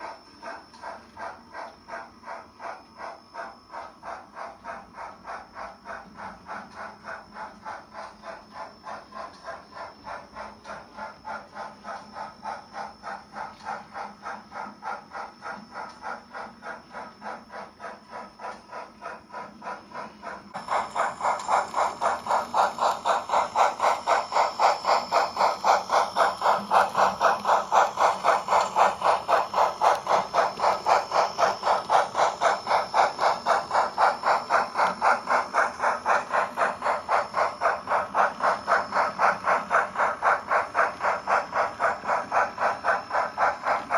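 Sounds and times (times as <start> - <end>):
model steam locomotive chuffing: 0.0 - 43.9.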